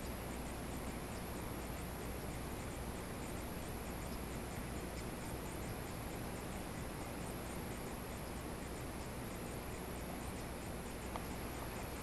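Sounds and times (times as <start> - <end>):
insects chirring: 0.0 - 12.0
low even hiss: 0.0 - 12.0.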